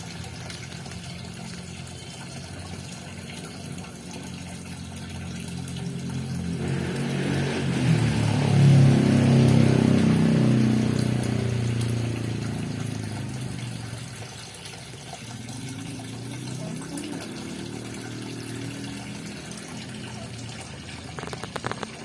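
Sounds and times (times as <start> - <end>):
water splashing into pond: 0.0 - 22.0.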